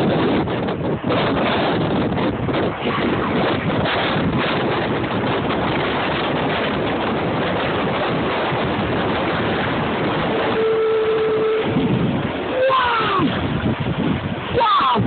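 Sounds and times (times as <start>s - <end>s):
jet engines: 0.0s - 15.0s
steady whine: 0.0s - 15.0s
wind buffeting microphone: 0.0s - 15.0s.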